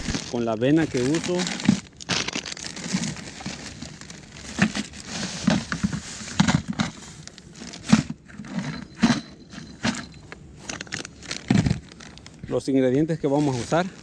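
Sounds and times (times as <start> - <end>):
plastic bags crinkling: 0.0 - 12.6, 13.2 - 14.0.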